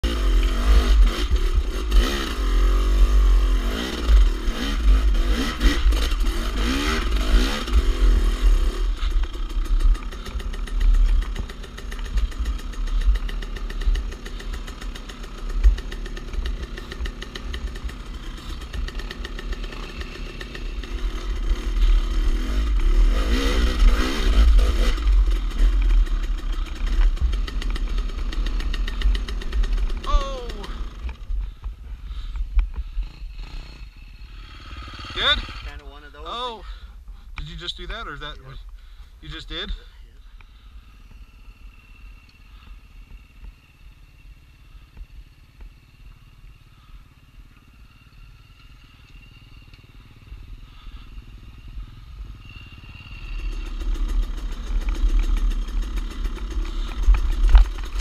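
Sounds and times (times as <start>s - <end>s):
dirt bike engine revving: 0.0s - 44.9s, 45.6s - 58.0s
constant low rumble: 0.0s - 58.0s.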